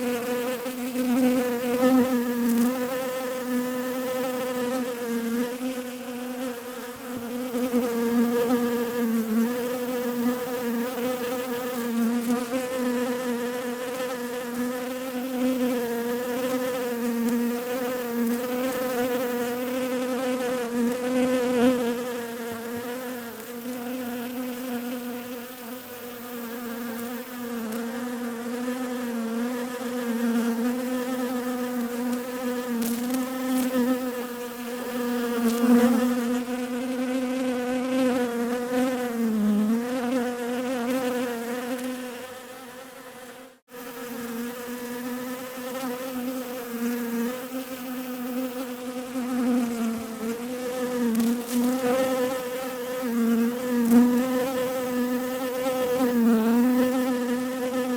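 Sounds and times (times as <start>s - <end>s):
bees buzzing: 0.0s - 57.9s.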